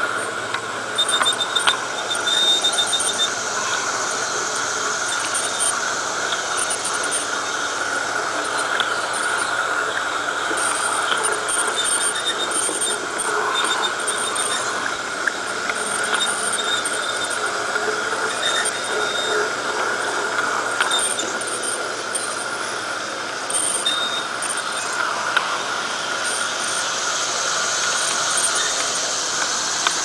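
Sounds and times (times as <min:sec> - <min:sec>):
model train motor whirring on rails: 0:00.0 - 0:30.0.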